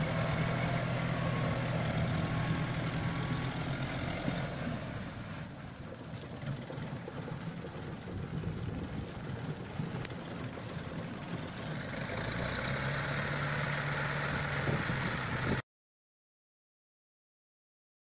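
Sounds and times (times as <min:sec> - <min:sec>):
tractor diesel engine running: 0:00.0 - 0:15.6.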